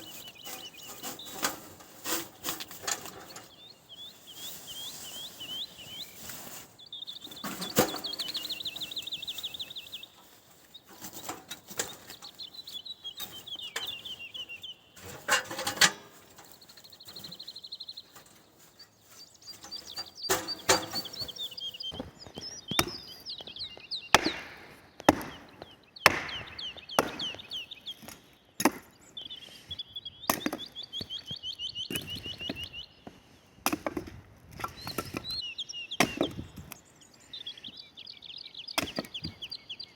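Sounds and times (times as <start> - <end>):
songbird trilling: 0.0 - 24.4, 25.0 - 28.4, 29.1 - 33.0, 34.7 - 39.9.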